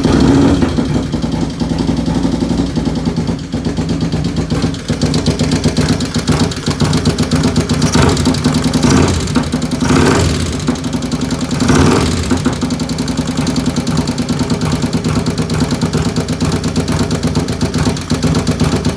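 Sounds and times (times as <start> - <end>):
engine ticking: 0.0 - 18.9
motorcycle engine idling: 0.0 - 18.9.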